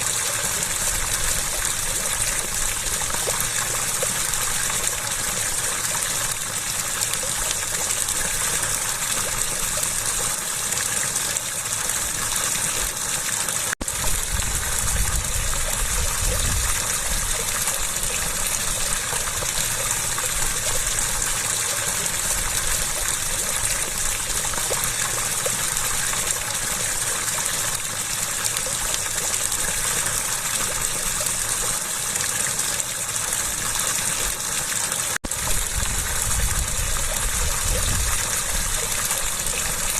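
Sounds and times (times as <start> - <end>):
water gushing: 0.0 - 39.9.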